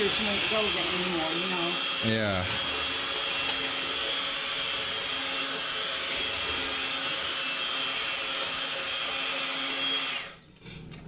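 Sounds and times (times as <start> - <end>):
electric hand mixer whining: 0.0 - 10.5.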